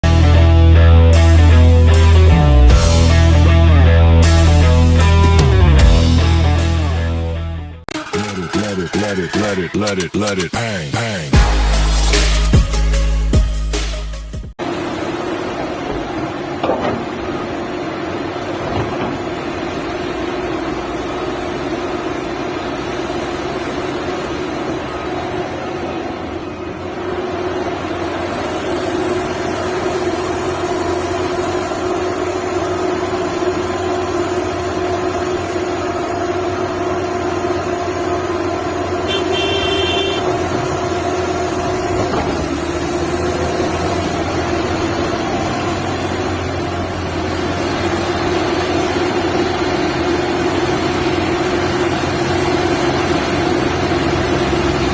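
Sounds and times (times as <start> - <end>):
excavator diesel engine rumbling: 0.0 - 13.9, 14.6 - 54.9.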